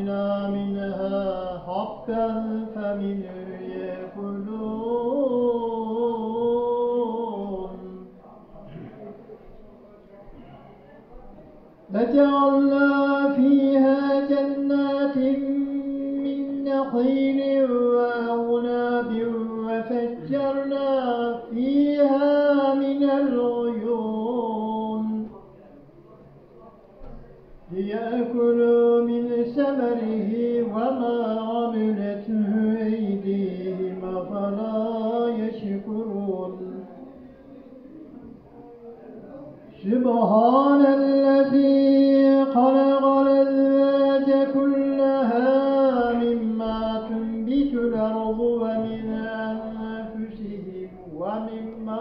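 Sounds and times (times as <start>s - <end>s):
man chanting recitation: 0.0s - 52.0s.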